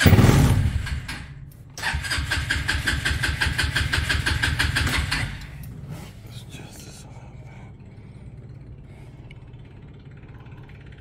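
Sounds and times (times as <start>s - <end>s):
go-kart engine starting and running: 0.0s - 6.2s, 7.9s - 11.0s.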